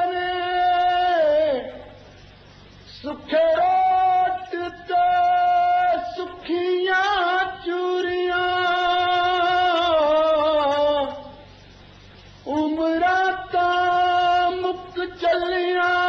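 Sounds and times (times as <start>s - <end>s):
man singing in high voice: 0.0s - 2.0s, 2.9s - 11.4s, 12.4s - 16.0s.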